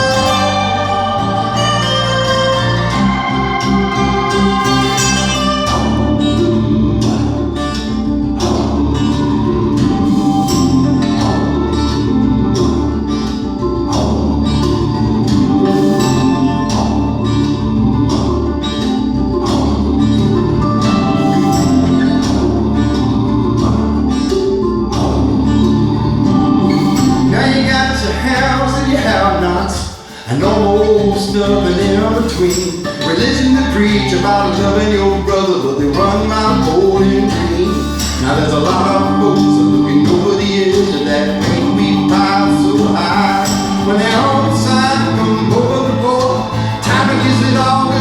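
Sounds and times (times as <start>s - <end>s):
bass line: 0.0s - 48.0s
keyboard chords: 0.0s - 48.0s
steady beat: 0.0s - 48.0s.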